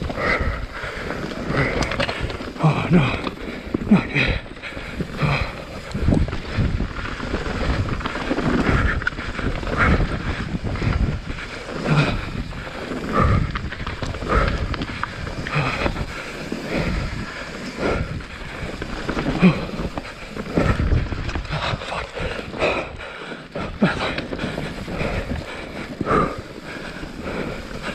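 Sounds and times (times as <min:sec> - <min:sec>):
tyres rolling over dirt and rock: 0:00.0 - 0:27.9
wind buffeting microphone: 0:00.0 - 0:27.9.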